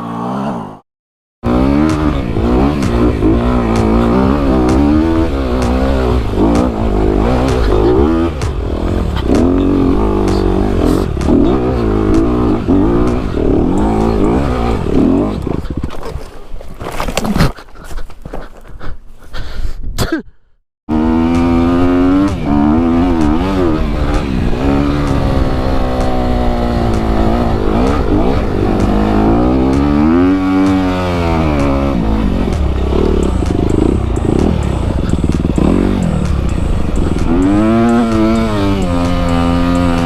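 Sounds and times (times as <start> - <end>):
dirt bike engine revving: 1.4 - 15.8, 20.9 - 40.0.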